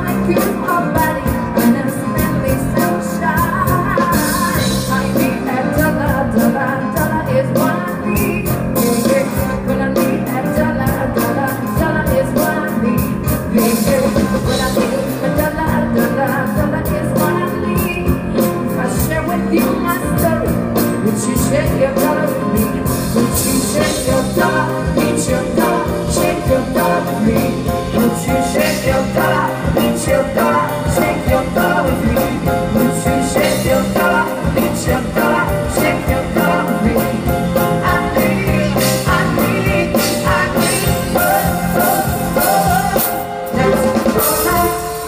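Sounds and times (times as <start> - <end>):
drums steady beat: 0.0 - 45.0
live rock band playing: 0.0 - 45.0
person singing: 0.0 - 45.0.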